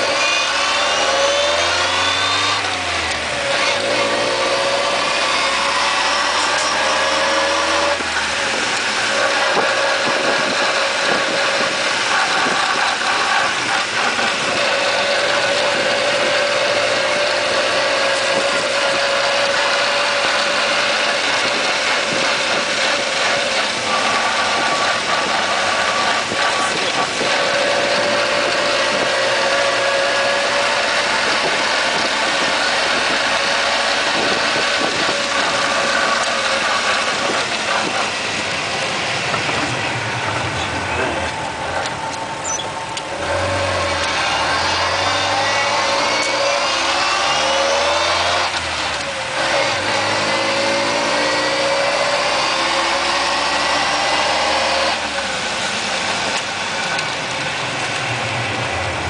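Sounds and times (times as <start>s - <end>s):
engine and drivetrain noise: 0.0s - 59.0s
transmission whining: 0.0s - 59.0s.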